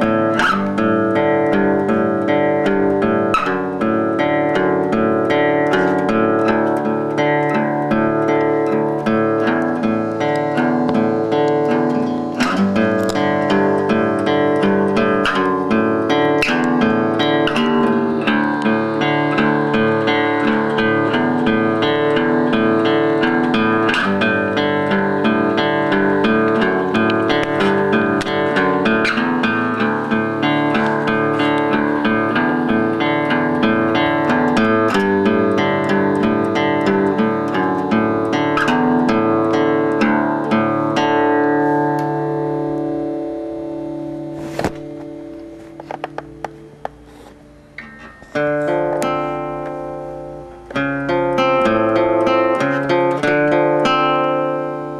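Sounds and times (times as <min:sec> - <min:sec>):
quickly plucked guitar notes: 0:00.0 - 0:54.9.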